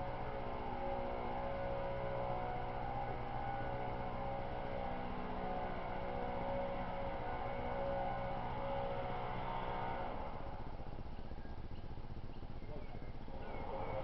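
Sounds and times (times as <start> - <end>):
steady hum of held tones: 0.0 - 14.0.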